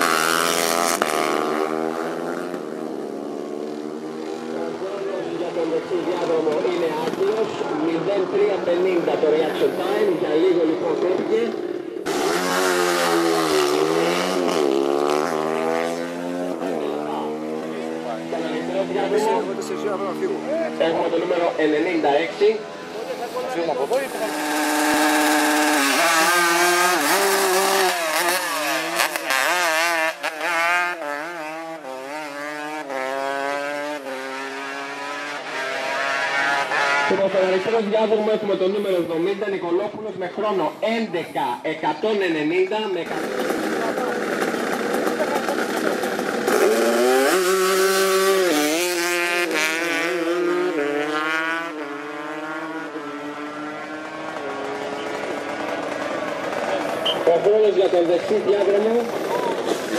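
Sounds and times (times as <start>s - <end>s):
motorcycle engine accelerating: 0.0s - 40.8s, 42.1s - 59.9s.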